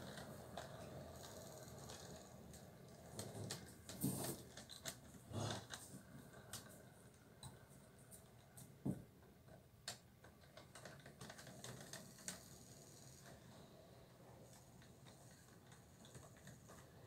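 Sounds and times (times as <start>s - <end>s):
faint irregular clicks: 0.0s - 17.0s.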